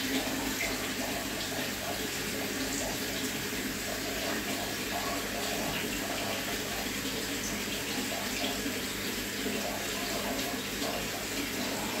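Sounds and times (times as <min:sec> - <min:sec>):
water running and splashing: 0:00.0 - 0:12.0.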